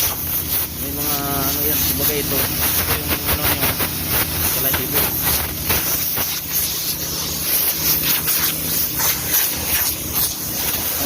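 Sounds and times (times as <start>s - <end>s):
hissing spray: 0.0s - 11.0s
steady low hum: 0.0s - 11.0s.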